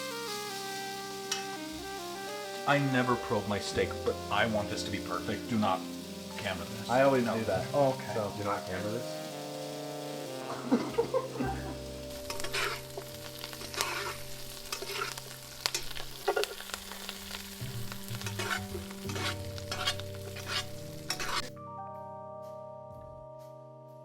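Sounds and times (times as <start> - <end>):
butter spooned over sizzling steak: 0.0 - 21.5
steak sizzling in a pan: 0.0 - 21.6.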